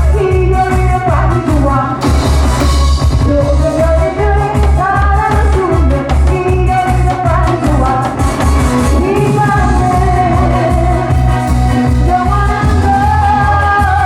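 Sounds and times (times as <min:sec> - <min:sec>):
woman singing live: 0:00.0 - 0:02.2, 0:03.1 - 0:14.0
pop backing track with bass beat: 0:00.0 - 0:14.0.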